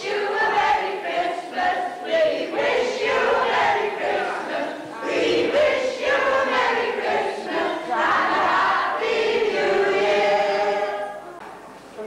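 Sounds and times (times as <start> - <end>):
group of voices singing: 0.0 - 11.4.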